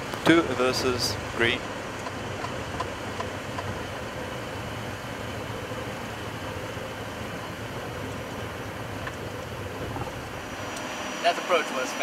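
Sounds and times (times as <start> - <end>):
wheels rolling on runway: 0.0 - 11.6
faint steady hum: 0.0 - 12.0
jet engines rumbling: 0.0 - 12.0.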